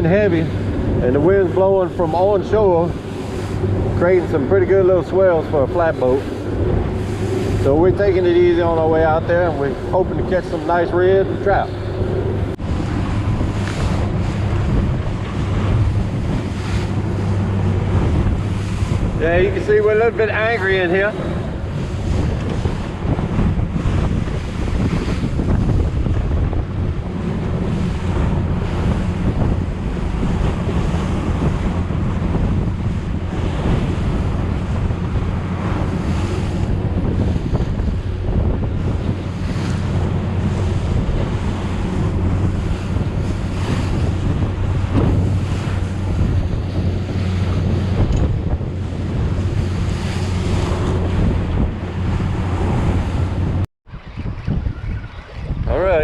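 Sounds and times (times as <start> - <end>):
outboard motor running: 0.0 - 56.0
water splashing against hull: 0.0 - 56.0
wind buffeting microphone: 0.0 - 56.0.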